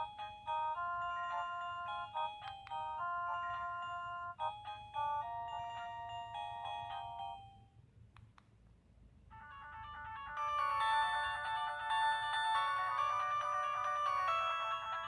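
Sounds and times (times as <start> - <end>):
phone ringtone melody: 0.0 - 7.7, 9.3 - 15.0.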